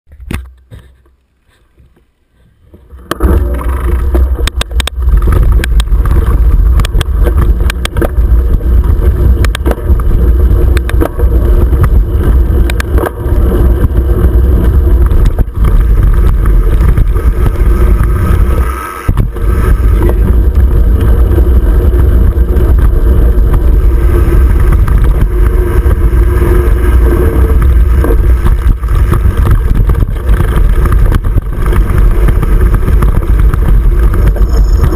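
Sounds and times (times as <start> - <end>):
bike clicks and rattles: 0.1 - 34.9
bike tyres rolling on dirt: 0.1 - 34.9
wind buffeting microphone: 2.7 - 34.9.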